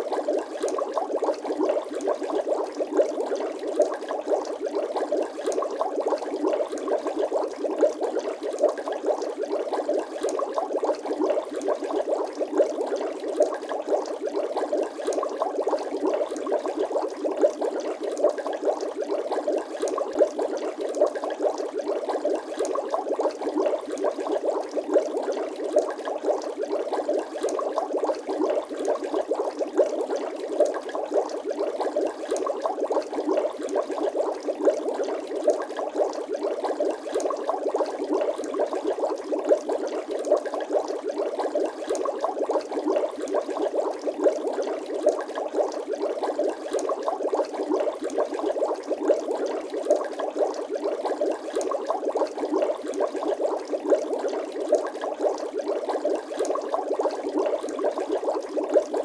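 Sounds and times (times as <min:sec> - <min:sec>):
bubbles popping and gurgling: 0:00.0 - 0:59.0.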